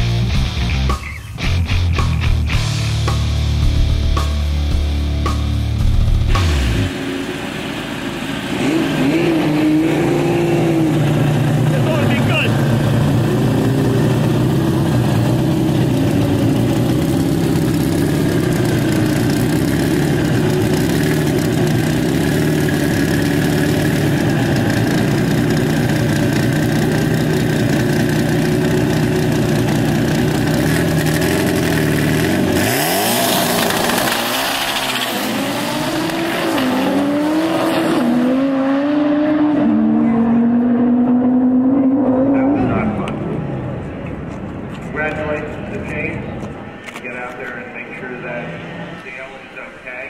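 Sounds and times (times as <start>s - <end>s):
car engine revving: 0.0s - 46.2s.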